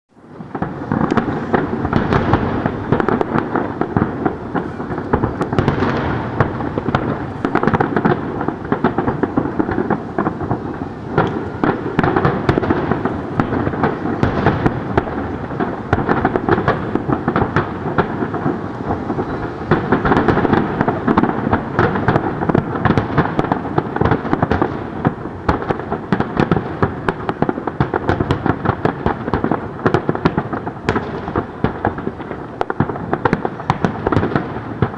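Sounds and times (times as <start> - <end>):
fireworks bursting and crackling: 0.1 - 34.9.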